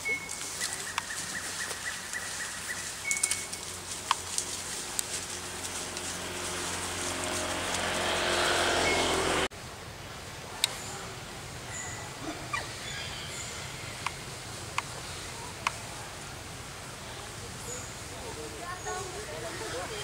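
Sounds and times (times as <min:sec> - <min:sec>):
engine hum: 0:00.0 - 0:20.0
faint outdoor background: 0:00.0 - 0:20.0.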